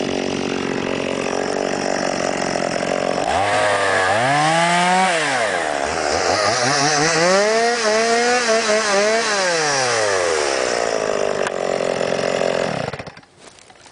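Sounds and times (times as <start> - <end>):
chainsaw engine revving and idling: 0.0 - 13.3.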